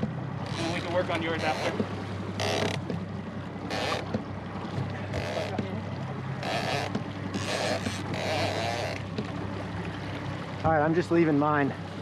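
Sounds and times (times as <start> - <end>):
outboard motor idling: 0.0 - 12.0
water slapping against hull: 0.0 - 12.0.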